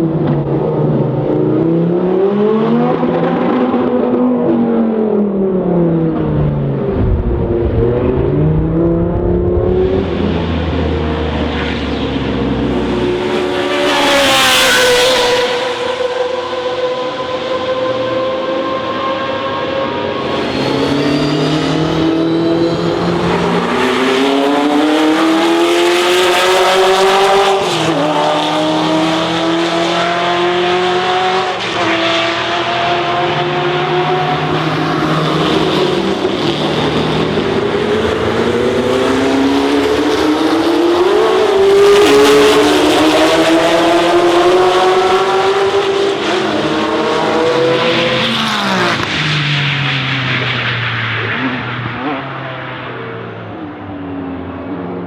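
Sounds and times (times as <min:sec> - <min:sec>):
racing car engine accelerating: 0:00.0 - 0:54.9.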